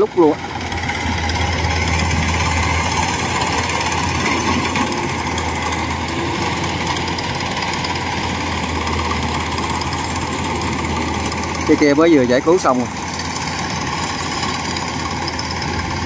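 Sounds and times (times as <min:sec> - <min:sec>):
combine harvester drone: 0:00.0 - 0:16.0.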